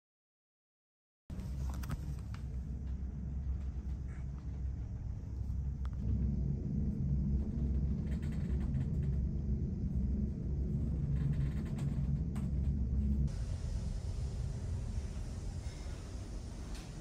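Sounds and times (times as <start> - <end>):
steady low rumble: 1.3 - 17.0.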